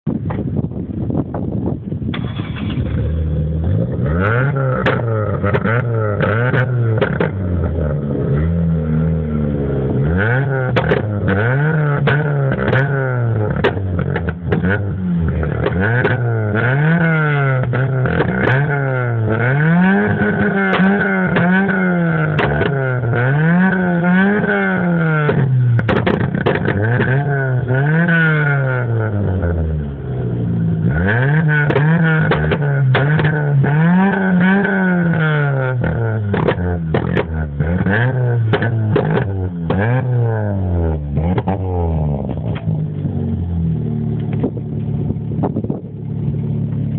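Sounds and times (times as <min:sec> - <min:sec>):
exhaust crackles: 0:01.8 - 0:46.9
car engine revving: 0:02.1 - 0:46.9.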